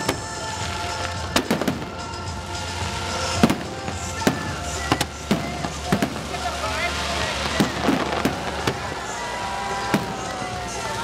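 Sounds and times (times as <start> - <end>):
firework bangs: 0.0 - 11.0
music: 0.0 - 11.0.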